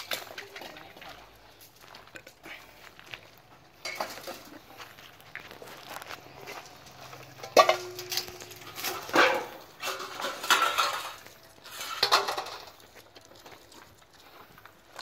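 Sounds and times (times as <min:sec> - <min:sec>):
metal bowls clattering on gravel: 0:00.0 - 0:15.0.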